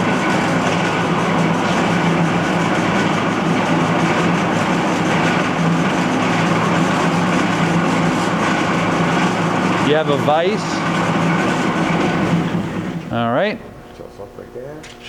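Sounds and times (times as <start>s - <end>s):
band saw running: 0.0s - 14.2s.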